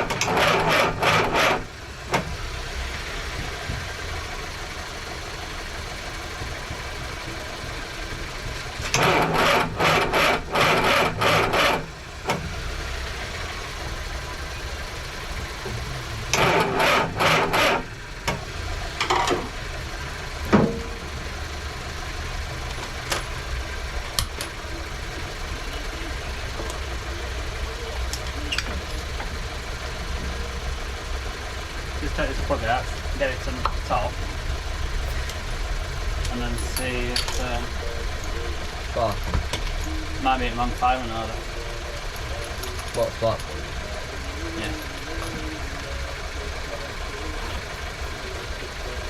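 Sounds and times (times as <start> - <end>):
starter motor cranking engine: 0.0 - 49.0.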